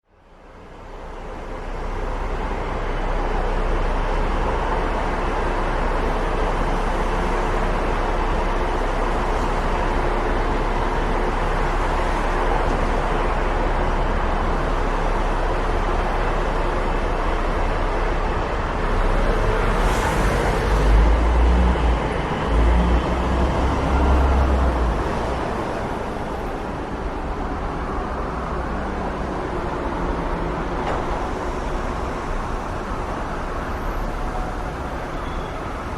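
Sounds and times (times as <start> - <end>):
passing cars: 0.5 - 35.9.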